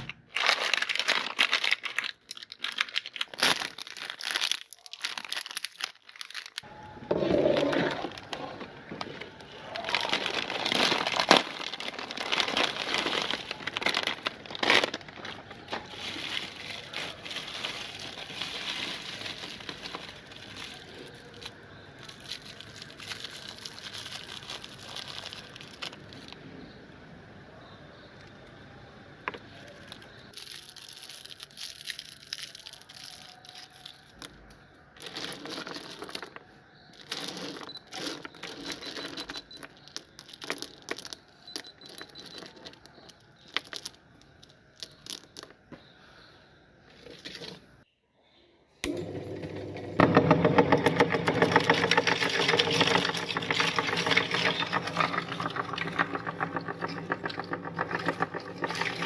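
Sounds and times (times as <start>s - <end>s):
hard candies clicking: 0.0s - 6.7s, 8.0s - 26.4s, 29.3s - 45.6s, 50.0s - 59.0s.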